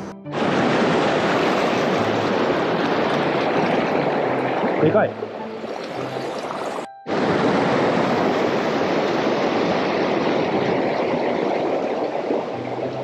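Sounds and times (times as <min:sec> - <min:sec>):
river water rushing: 0:00.3 - 0:13.0.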